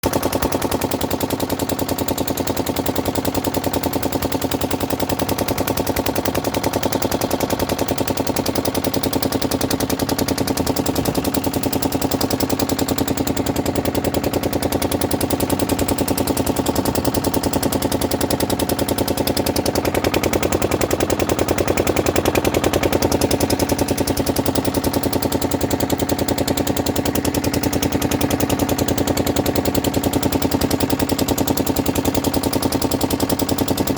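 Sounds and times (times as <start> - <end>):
engine chugging steadily: 0.0 - 33.9.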